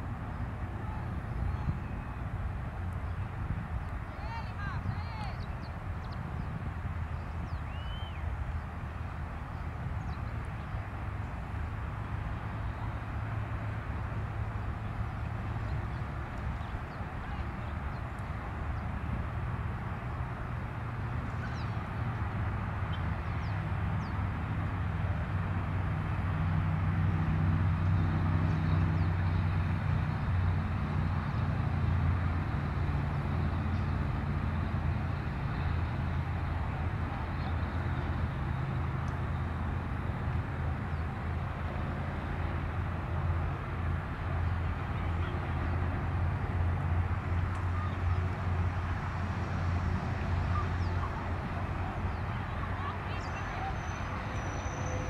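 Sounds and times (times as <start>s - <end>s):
distant jet engine rumble: 0.0s - 55.0s.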